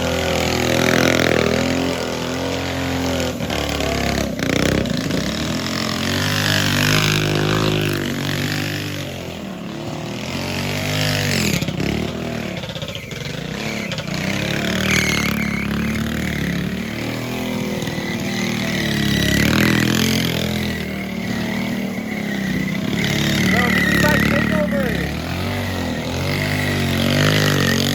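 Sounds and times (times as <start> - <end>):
mini bike engine revving: 0.0 - 27.9.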